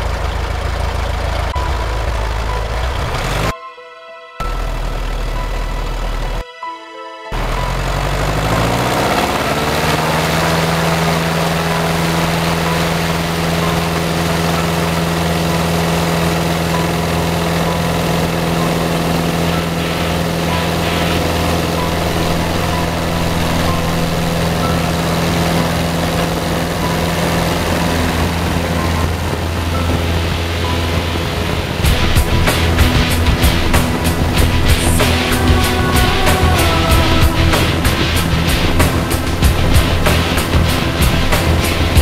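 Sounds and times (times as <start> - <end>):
piston engine and propeller: 0.0 - 3.5, 4.4 - 6.4, 7.3 - 42.0.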